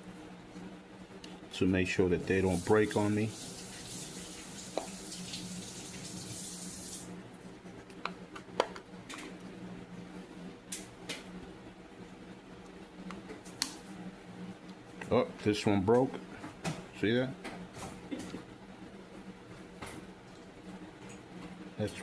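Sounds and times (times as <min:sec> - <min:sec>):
steady low hum: 0:00.0 - 0:05.1, 0:06.1 - 0:22.0.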